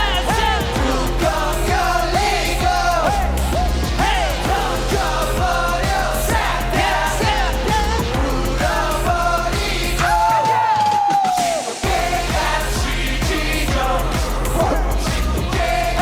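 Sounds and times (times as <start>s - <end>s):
steady bass beat: 0.0s - 10.3s, 11.8s - 16.0s
pop song vocals: 0.0s - 16.0s.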